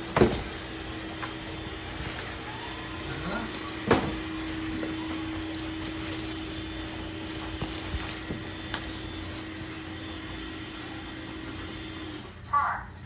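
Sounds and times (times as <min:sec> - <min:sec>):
robot vacuum motor whirring: 0:00.0 - 0:12.2.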